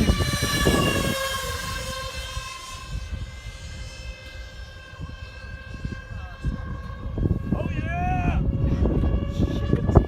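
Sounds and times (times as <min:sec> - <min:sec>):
electric ducted fans whining: 0:00.0 - 0:10.0
wind buffeting microphone: 0:00.0 - 0:10.0.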